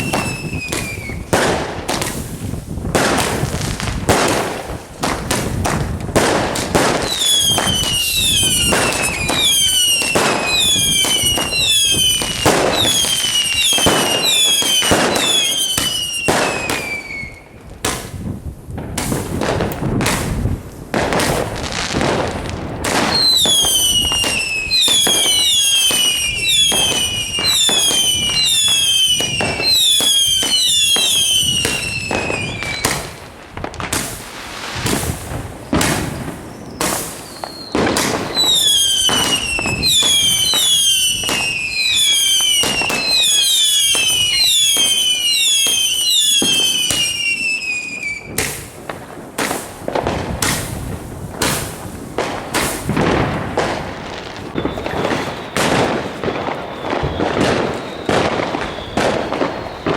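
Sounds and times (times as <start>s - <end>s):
fireworks bangs and crackles: 0.0s - 59.9s
whistling firework shots: 0.0s - 59.9s.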